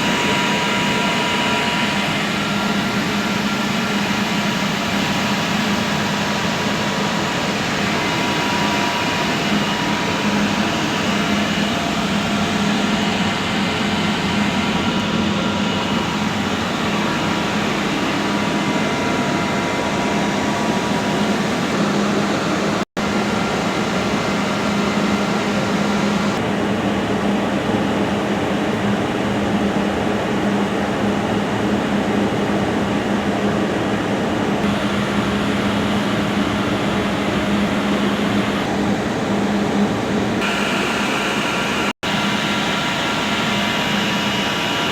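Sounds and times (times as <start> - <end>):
fan noise: 0.0 - 44.9.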